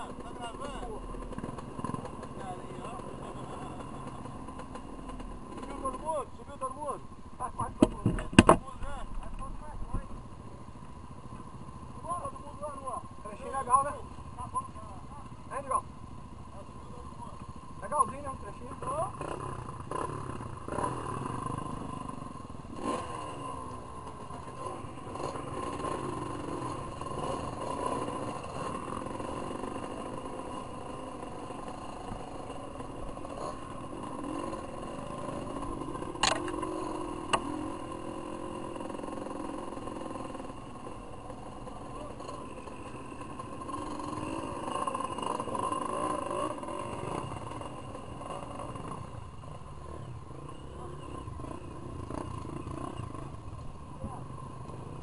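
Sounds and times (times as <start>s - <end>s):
dirt bike engine revving: 0.0s - 9.0s, 11.2s - 55.0s.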